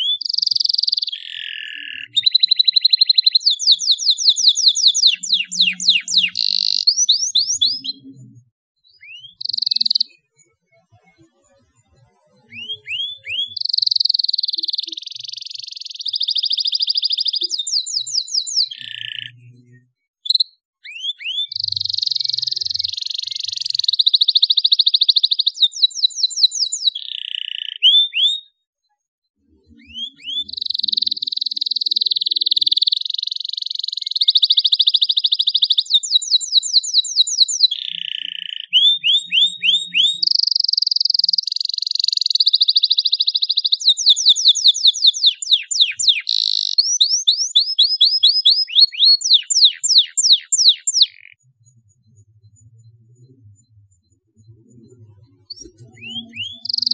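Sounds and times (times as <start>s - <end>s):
canary singing: 0.0s - 11.6s, 12.2s - 28.6s, 29.5s - 56.9s.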